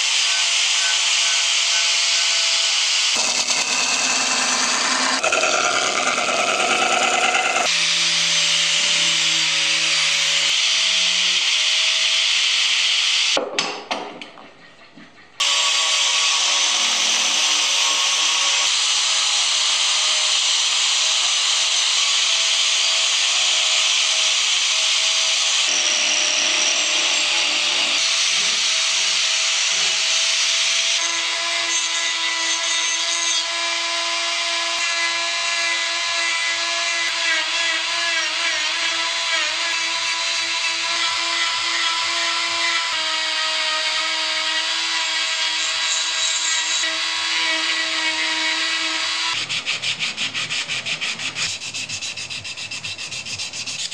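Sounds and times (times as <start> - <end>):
angle grinder sanding wood: 0.0 - 12.0, 15.4 - 53.9
rotary tool whine carving wood: 0.0 - 13.4, 15.4 - 53.9.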